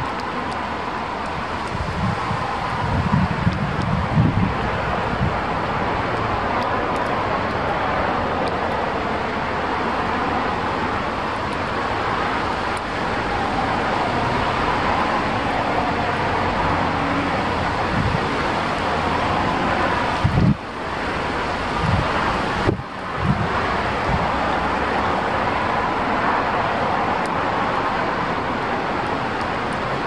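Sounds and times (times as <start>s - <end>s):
rushing wind: 0.0s - 30.0s
wind gusts buffeting microphone: 0.0s - 30.0s.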